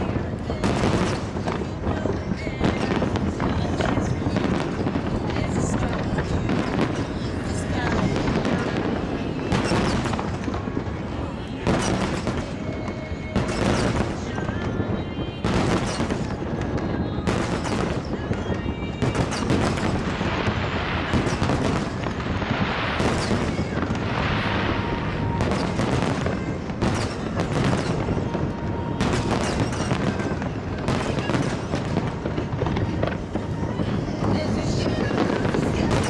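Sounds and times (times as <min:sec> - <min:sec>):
fireworks bursting: 0:00.0 - 0:36.0
fireworks crackling: 0:00.0 - 0:36.0.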